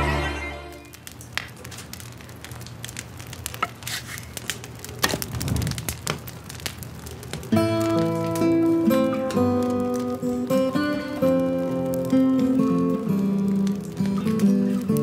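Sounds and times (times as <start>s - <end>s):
wood fire crackling and popping: 0.6s - 15.0s.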